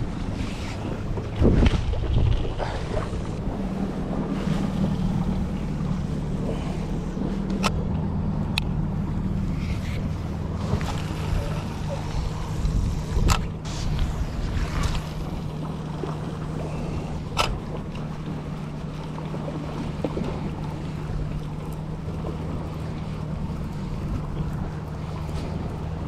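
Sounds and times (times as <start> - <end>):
steady low hum: 0.0 - 26.0
water noise: 0.0 - 26.0
wind: 0.0 - 26.0.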